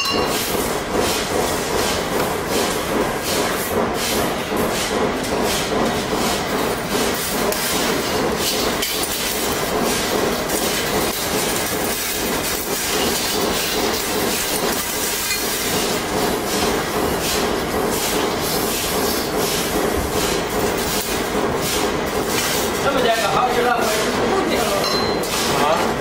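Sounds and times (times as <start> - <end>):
workshop machinery hissing: 0.0 - 26.0.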